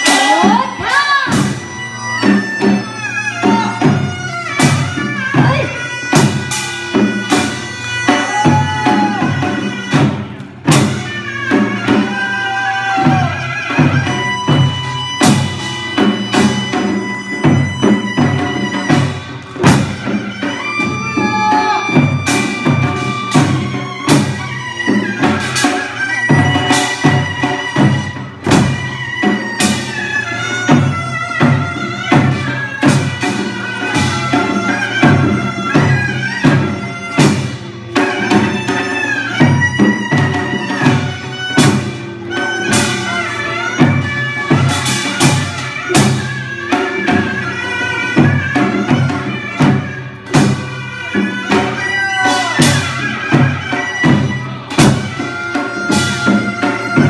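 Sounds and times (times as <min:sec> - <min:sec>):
drum strikes: 0:00.0 - 0:57.0.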